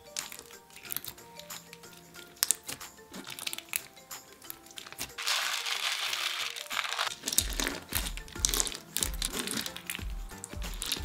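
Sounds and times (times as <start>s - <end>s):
background music with steady beat: 0.0s - 11.0s
plastic beads rattling onto slime: 0.2s - 10.0s.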